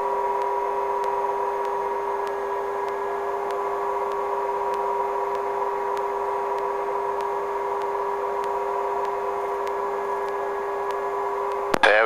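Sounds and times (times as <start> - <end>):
faint regular ticking: 0.0 - 11.8
helicopter engine whine: 0.0 - 12.0.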